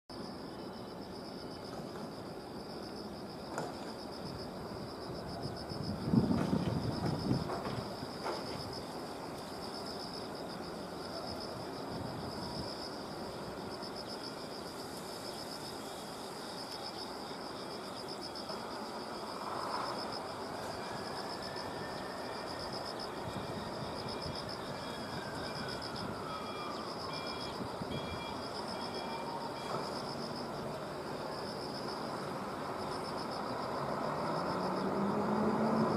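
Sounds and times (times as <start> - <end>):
insects chirring: 0.1 - 35.9.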